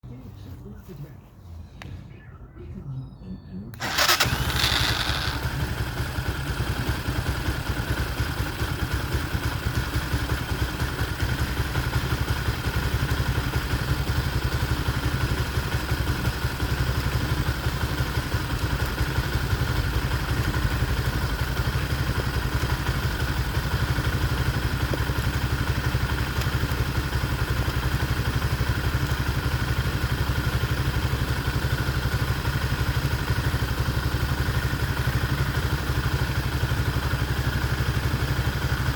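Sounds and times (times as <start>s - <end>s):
engine starting and idling: 3.7s - 38.9s.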